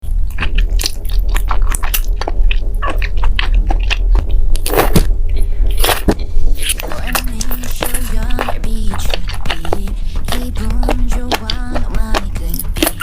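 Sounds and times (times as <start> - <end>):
person chewing crunchy food: 0.0 - 13.0
steady low hum: 0.0 - 13.0.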